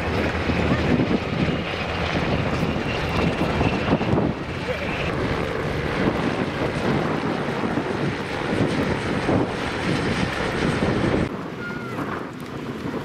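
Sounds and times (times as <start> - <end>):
helicopters flying past: 0.0 - 13.0
wind noise on microphone: 0.0 - 13.0.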